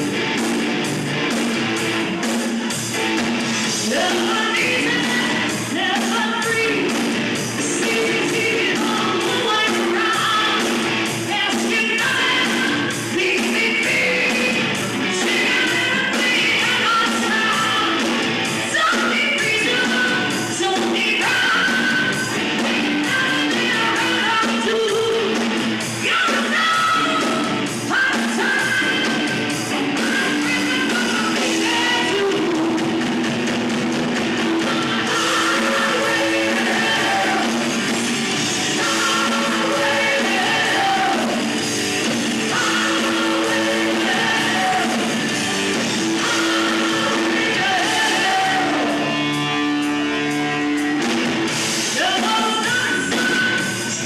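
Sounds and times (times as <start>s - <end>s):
electric guitar: 0.0s - 54.0s
rock band playing live: 0.0s - 54.0s
person singing: 3.6s - 33.1s, 34.4s - 50.7s, 51.9s - 54.0s.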